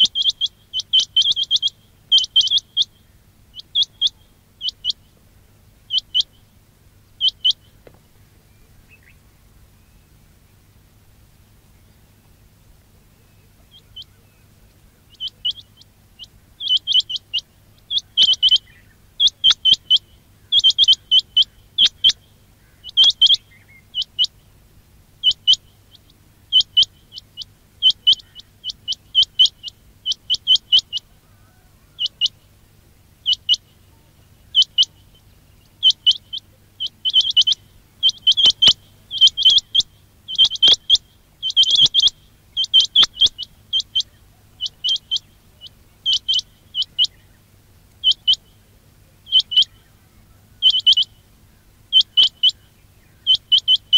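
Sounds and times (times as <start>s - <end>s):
quail calling: 0.0s - 9.3s, 13.4s - 24.5s, 25.2s - 53.9s.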